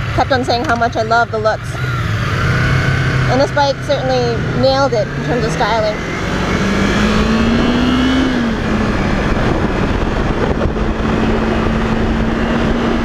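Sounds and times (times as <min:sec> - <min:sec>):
heavy wind noise: 0:00.0 - 0:13.0
motorcycle engine cruising: 0:00.0 - 0:13.0.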